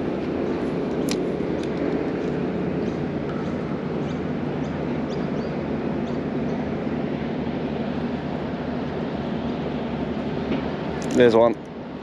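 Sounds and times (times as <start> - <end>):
outdoor rumble: 0.0 - 12.0
wind: 0.0 - 12.0.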